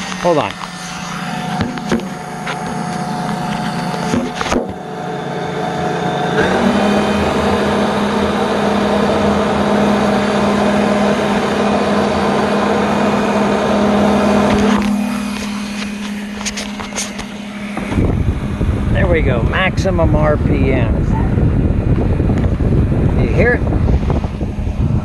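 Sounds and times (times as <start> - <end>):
loud steady hum: 0.0 - 25.0
riding lawn mower running: 0.0 - 25.0.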